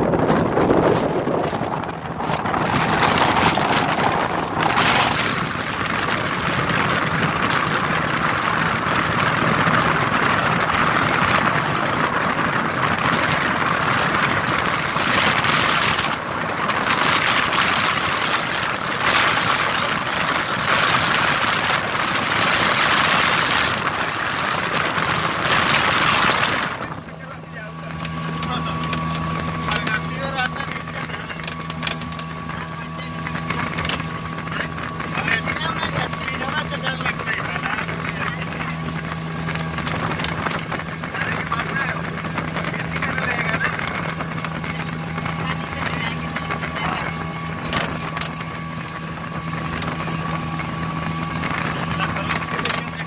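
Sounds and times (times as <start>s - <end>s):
water and wind rushing past boat: 0.0s - 53.0s.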